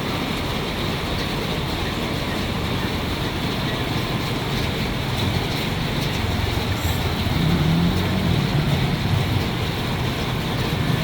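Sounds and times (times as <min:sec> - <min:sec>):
steady rushing hiss: 0:00.1 - 0:11.0
vehicle engine running: 0:01.3 - 0:11.0.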